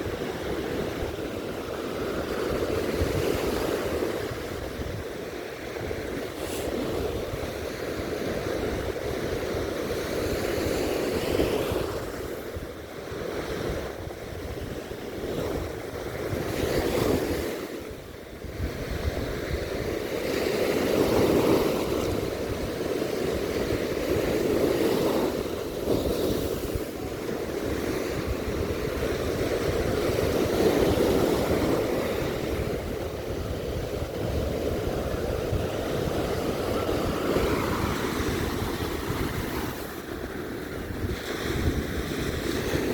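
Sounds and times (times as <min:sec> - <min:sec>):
sea waves breaking on beach: 0:00.0 - 0:42.9
wind rumbling on microphone: 0:00.0 - 0:42.9.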